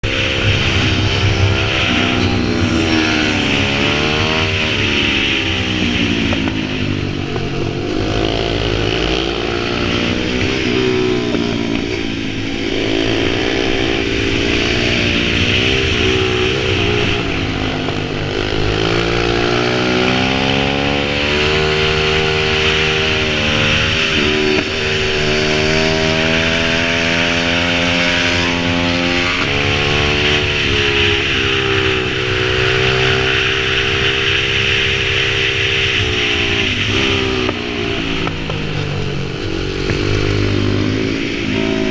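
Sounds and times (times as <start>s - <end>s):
small motorbike engine revving: 0.0s - 41.9s.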